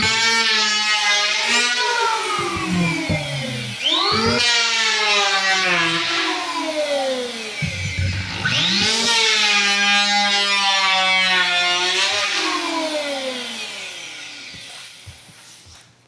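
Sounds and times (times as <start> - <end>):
power planer on wood: 0.0 - 15.7.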